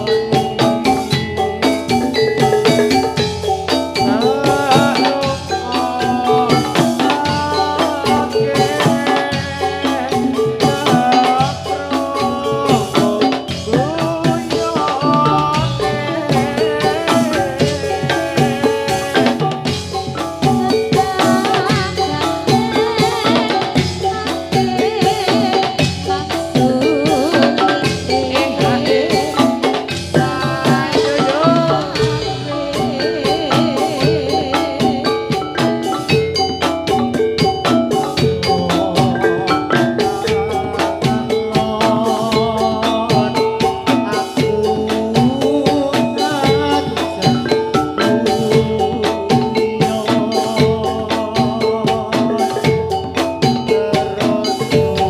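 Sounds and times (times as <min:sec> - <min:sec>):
drumming: 0:00.0 - 0:55.0
struck metallophones melody: 0:00.0 - 0:55.0.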